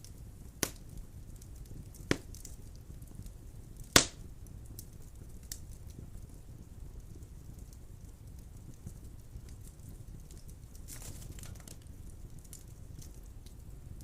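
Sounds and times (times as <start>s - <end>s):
burning wood popping: 0.0s - 14.0s
fire crackling in fireplace: 0.0s - 14.0s.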